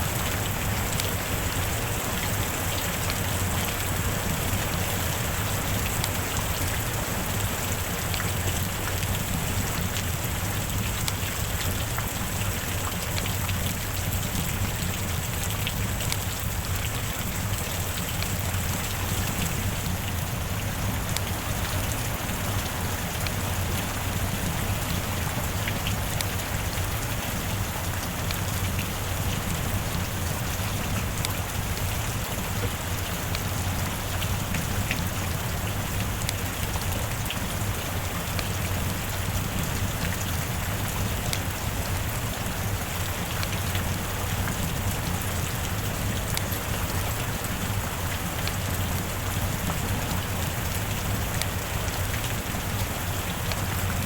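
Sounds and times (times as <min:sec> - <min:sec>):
sharp drips: 0:00.0 - 0:54.0
steady rain falling: 0:00.0 - 0:54.0.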